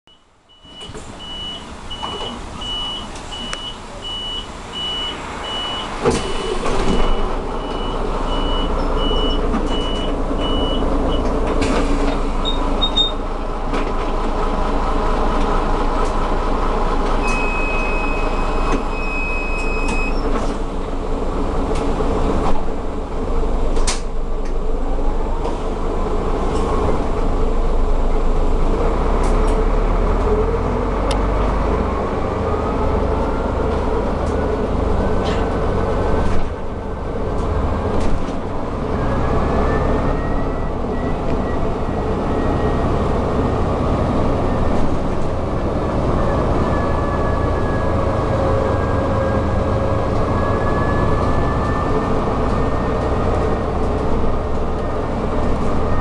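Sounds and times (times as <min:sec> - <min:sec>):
diesel bus engine idling: 0:00.2 - 0:56.0.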